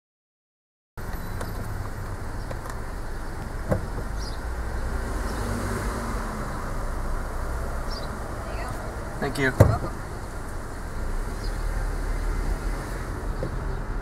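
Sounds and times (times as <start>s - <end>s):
car engine low rumble: 1.0s - 14.0s.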